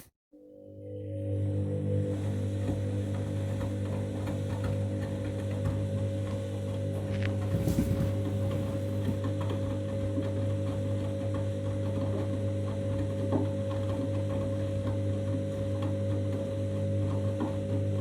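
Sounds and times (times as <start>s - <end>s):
washing machine motor hum: 0.5s - 18.0s.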